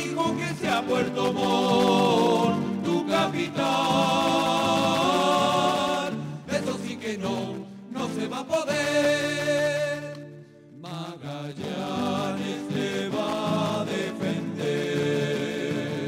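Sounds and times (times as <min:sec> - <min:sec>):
music with long held notes: 0:00.0 - 0:16.0.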